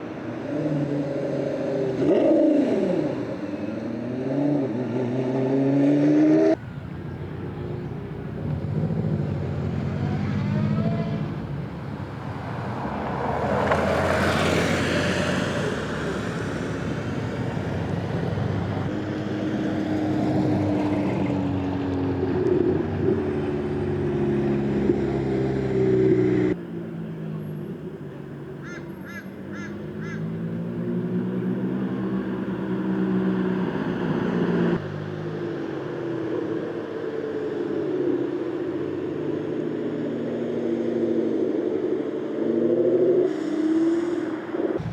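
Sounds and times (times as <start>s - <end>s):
sports cars revving and passing: 0.0s - 44.9s.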